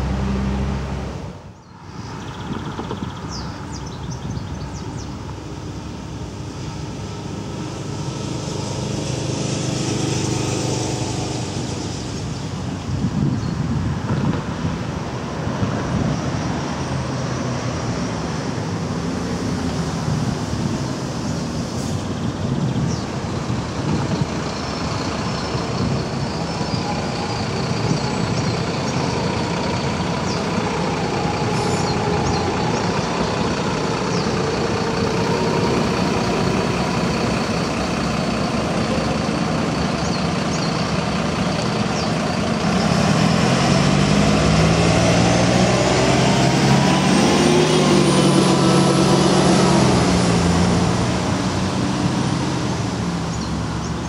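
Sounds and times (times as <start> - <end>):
heavy vehicle pulling away: 0.0 - 54.0
road traffic rushing past: 0.0 - 54.0.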